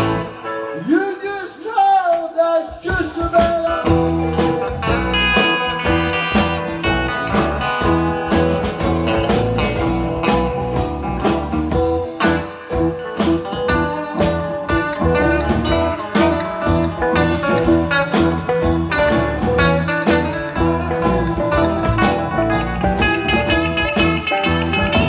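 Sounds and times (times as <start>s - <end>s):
blues band playing: 0.0s - 25.0s.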